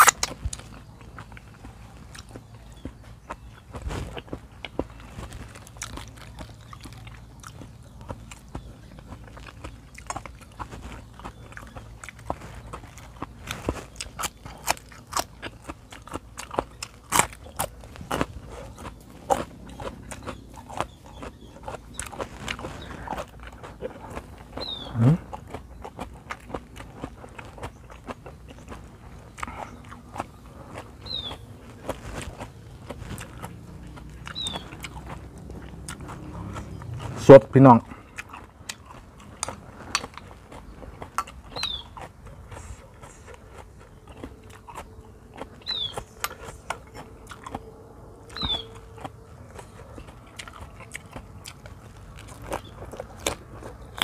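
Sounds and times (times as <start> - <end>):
man chewing wet mouth clicks: 0.0 - 54.0.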